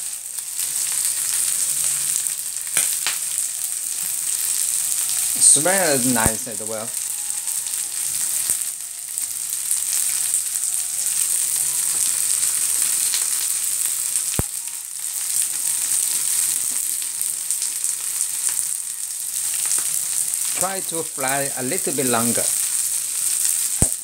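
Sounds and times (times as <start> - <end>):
prawns sizzling in hot oil: 0.0 - 24.0.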